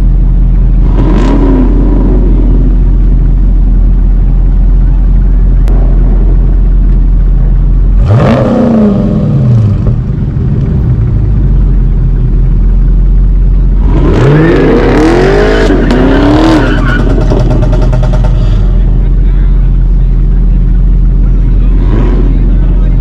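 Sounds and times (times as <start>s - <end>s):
car engine idling: 0.0s - 23.0s
engine revving: 0.0s - 23.0s.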